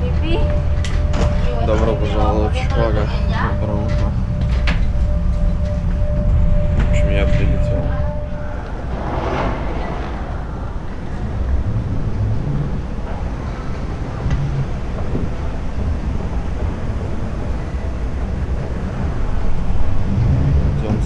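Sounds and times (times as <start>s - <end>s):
faint hubbub: 0.0s - 21.0s
low rumble: 0.0s - 21.0s.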